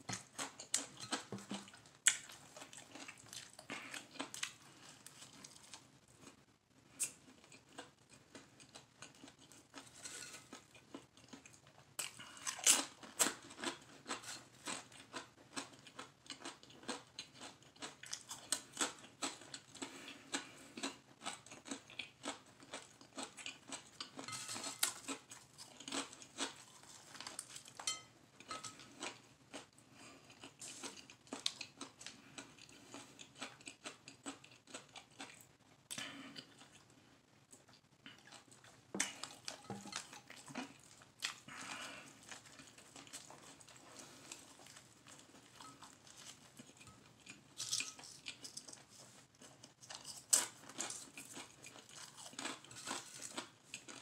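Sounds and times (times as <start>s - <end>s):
close-up chewing: 0.0s - 54.0s.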